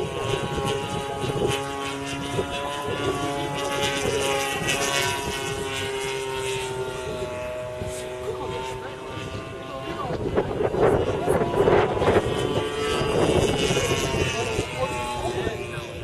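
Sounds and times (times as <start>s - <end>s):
model airplane engine droning: 0.0s - 16.0s
wind on microphone: 0.0s - 16.0s.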